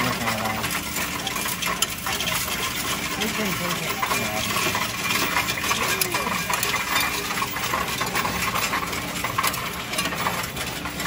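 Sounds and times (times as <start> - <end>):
coins clinking in counting machine: 0.0 - 11.0.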